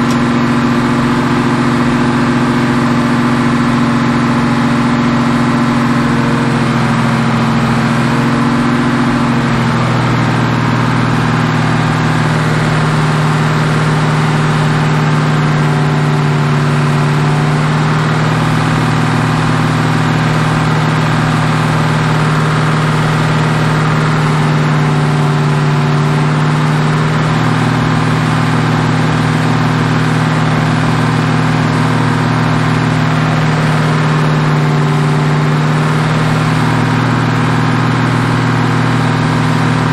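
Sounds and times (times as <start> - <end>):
engine at fast idle: 0.0 - 39.9.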